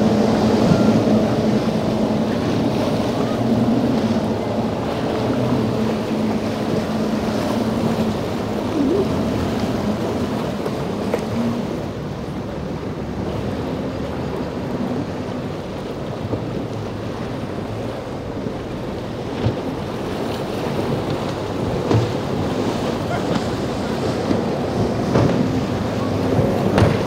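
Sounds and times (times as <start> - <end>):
boat engine drone: 0.0 - 27.0
waves breaking: 0.0 - 27.0.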